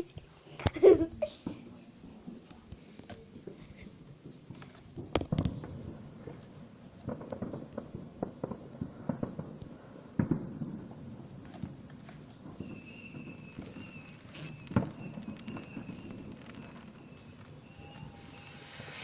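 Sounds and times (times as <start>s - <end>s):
firework crackling pops: 0.0s - 19.0s
firework bangs: 0.8s - 19.0s.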